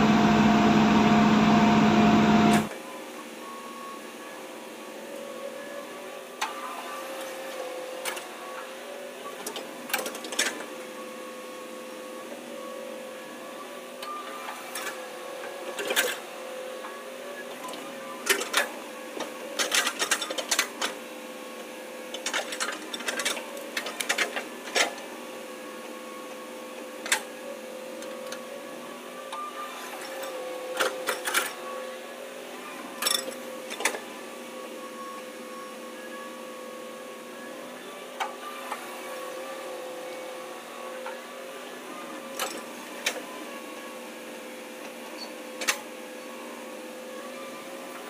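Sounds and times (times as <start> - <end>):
excavator engine and hydraulic whine: 0.0 - 48.0.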